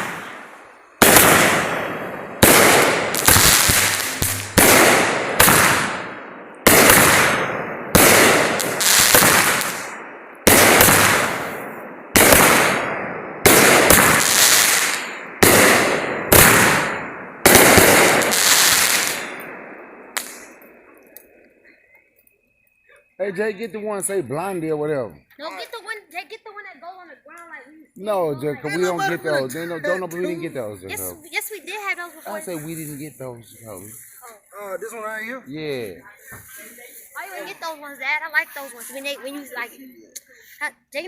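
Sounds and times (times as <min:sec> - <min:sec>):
fireworks bangs: 0:00.0 - 0:21.4, 0:23.3 - 0:39.8.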